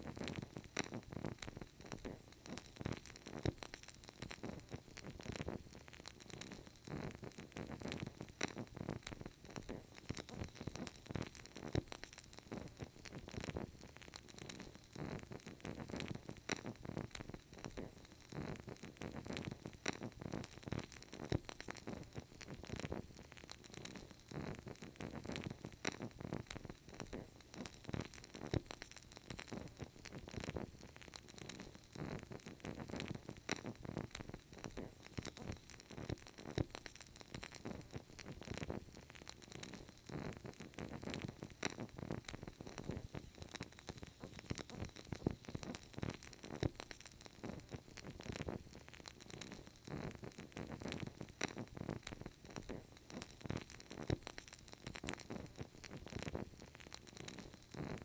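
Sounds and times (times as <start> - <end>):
candle crackling and popping: 0.0 - 58.0
faint hiss: 0.0 - 58.0.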